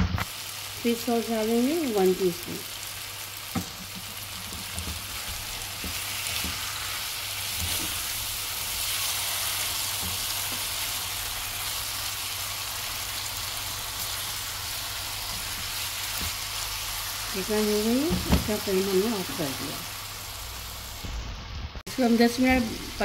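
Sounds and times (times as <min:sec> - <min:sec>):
chicken sizzling in a pan: 0:00.1 - 0:23.0.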